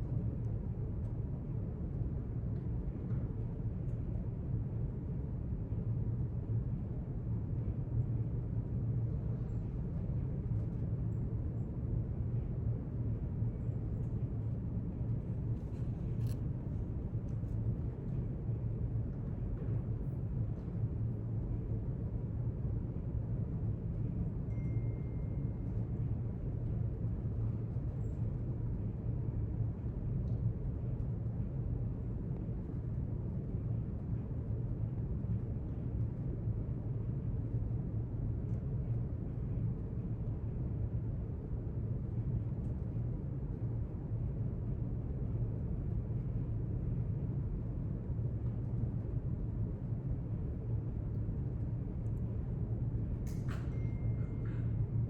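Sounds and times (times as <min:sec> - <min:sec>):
low room rumble: 0:00.0 - 0:55.0.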